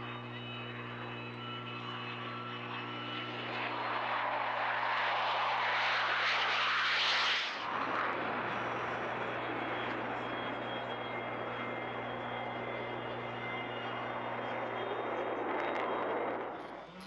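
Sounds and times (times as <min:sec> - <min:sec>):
jet fighter taking off on afterburner: 0:01.0 - 0:17.0.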